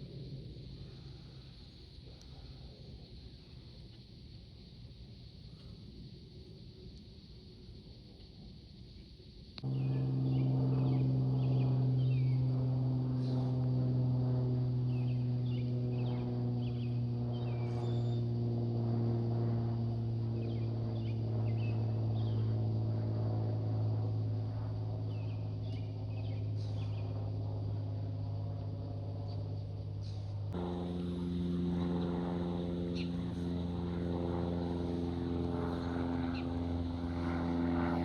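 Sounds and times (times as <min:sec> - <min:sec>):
aircraft engine drone: 0:00.0 - 0:38.0.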